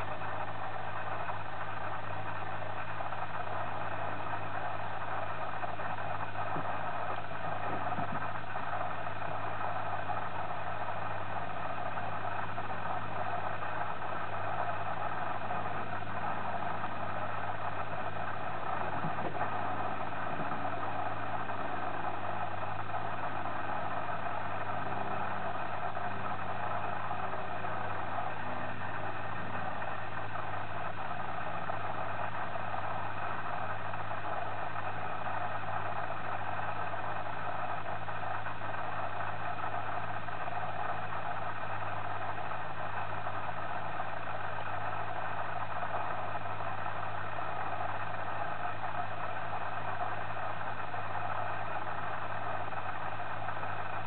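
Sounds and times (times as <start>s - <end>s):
machine hum with hiss: 0.0s - 54.0s.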